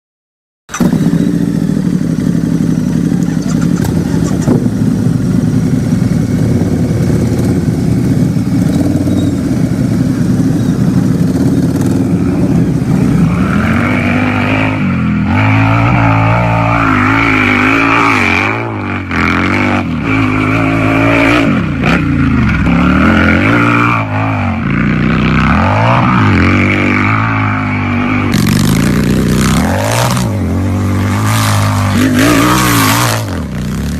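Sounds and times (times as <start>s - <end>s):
motorcycle engine idling and revving: 0.7s - 33.9s.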